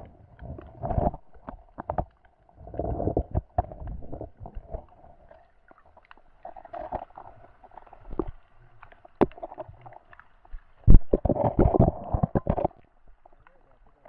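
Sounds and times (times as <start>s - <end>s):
muffled underwater rumbling: 0.0s - 14.0s.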